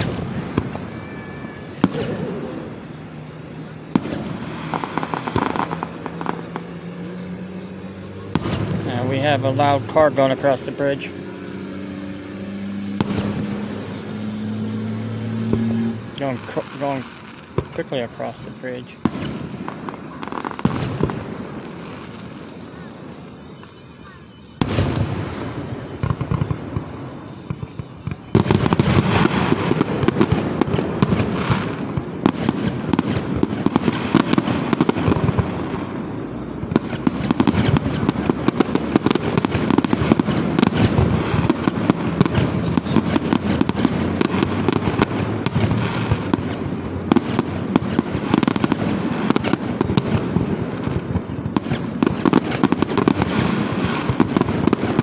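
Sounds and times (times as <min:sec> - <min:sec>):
firework bang: 0:00.0 - 0:06.9, 0:07.5 - 0:55.0
fireworks booming and crackling: 0:00.0 - 0:55.0.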